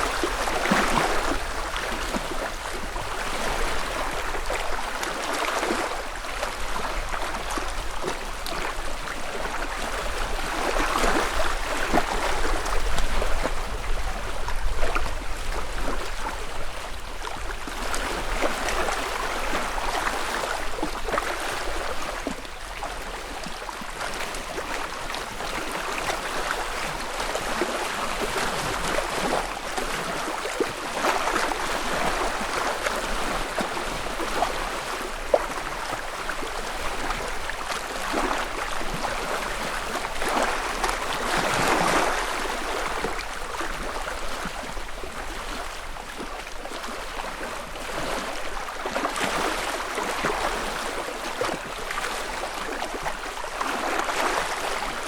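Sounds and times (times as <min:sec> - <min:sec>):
lake ripples lapping at shoreline: 0:00.0 - 0:55.0.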